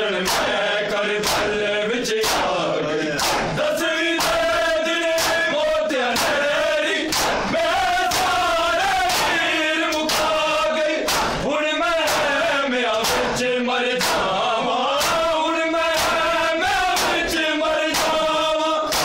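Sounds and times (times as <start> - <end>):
men chanting: 0.0 - 19.0
hands beating chests: 0.2 - 0.6, 1.2 - 1.6, 2.2 - 2.6, 3.2 - 3.6, 4.2 - 14.4, 15.0 - 19.0.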